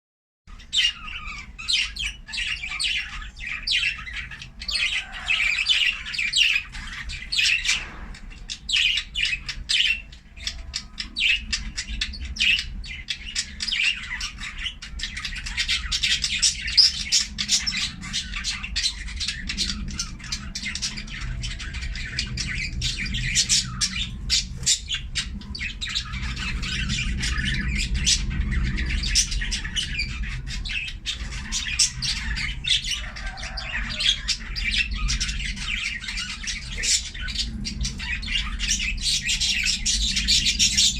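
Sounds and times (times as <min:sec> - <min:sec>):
budgerigars chattering and chirping: 0:00.5 - 0:40.9.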